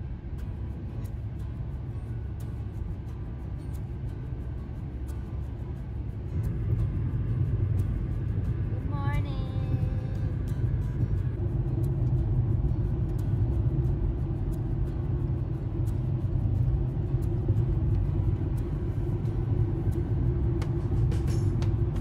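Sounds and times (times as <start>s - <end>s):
tyre and engine rumble: 0.0s - 22.0s.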